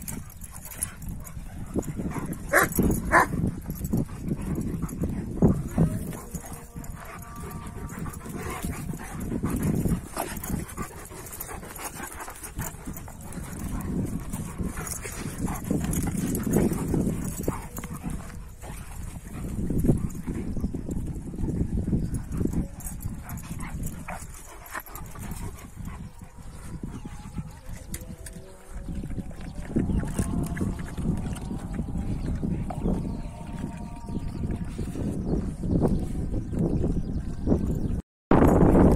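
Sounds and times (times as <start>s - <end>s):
dogs growling: 0.0s - 34.9s.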